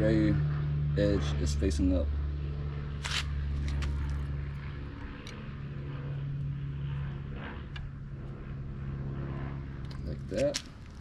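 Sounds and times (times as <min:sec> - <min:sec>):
low mechanical motor drone: 0:00.0 - 0:11.0.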